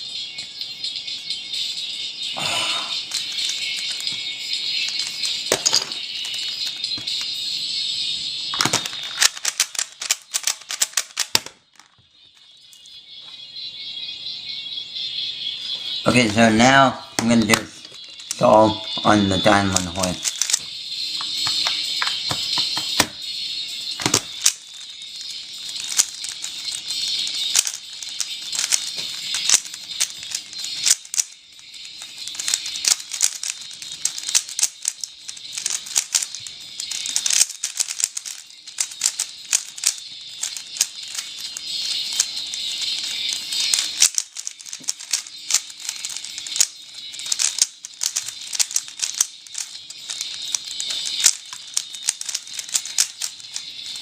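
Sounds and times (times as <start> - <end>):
puzzle cube plastic clicking: 2.9 - 7.4, 8.5 - 12.0, 16.1 - 23.2, 23.9 - 54.0.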